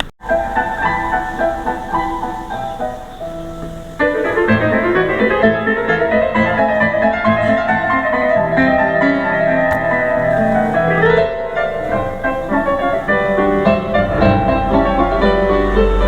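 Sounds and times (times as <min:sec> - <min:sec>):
piano music through loudspeaker: 0:00.0 - 0:16.0.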